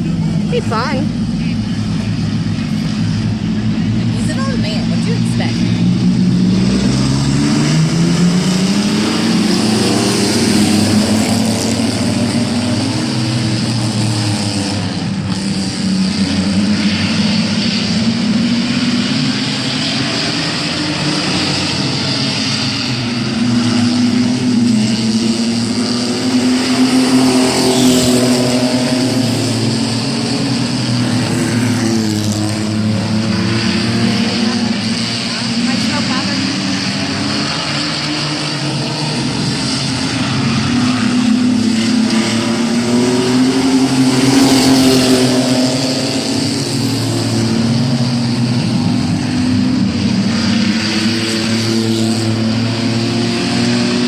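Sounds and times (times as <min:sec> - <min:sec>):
mini truck engines racing: 0:00.0 - 0:54.0.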